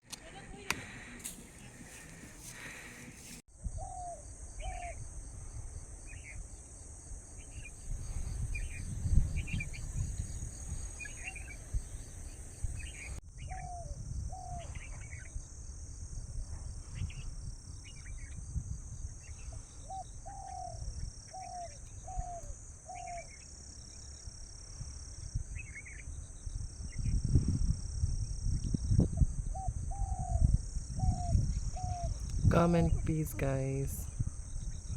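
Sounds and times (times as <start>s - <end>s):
pulsing insect chorus: 3.7s - 32.2s.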